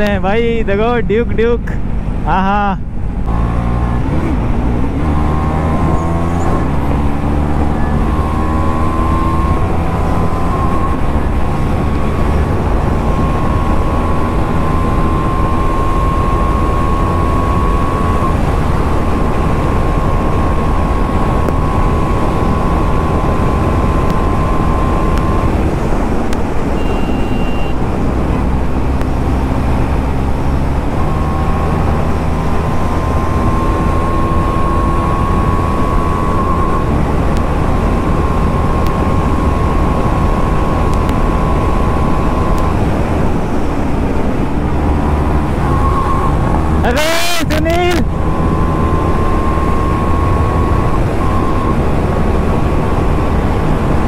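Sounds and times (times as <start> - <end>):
wind rush on microphone: 1.8 - 46.9, 48.0 - 54.0
motorcycle engine at high revs: 3.2 - 46.9, 47.6 - 54.0.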